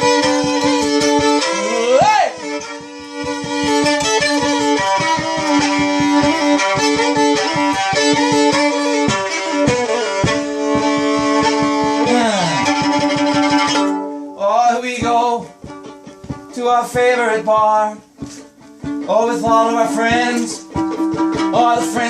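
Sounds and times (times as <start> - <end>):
person singing: 0.0 - 15.8, 16.4 - 22.0
fiddle playing folk music: 0.0 - 22.0.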